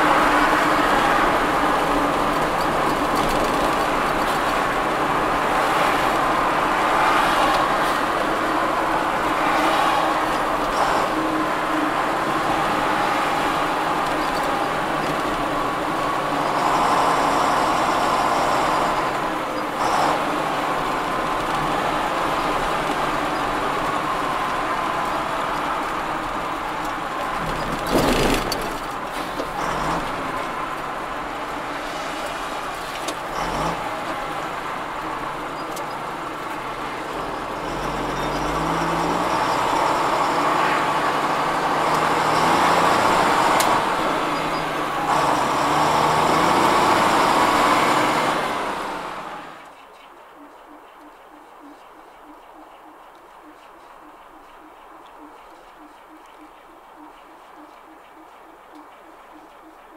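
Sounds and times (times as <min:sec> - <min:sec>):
lorry engine: 0:00.0 - 0:59.9
road noise: 0:00.0 - 0:59.9.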